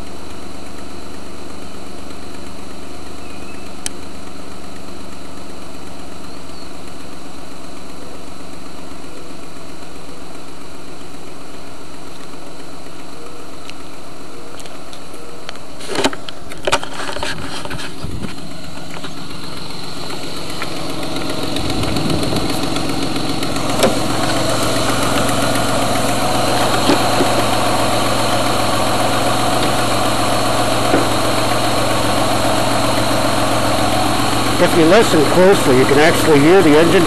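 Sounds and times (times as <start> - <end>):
exhaust leak ticking: 0.0 - 16.7, 17.6 - 37.0
truck engine idling: 0.0 - 37.0.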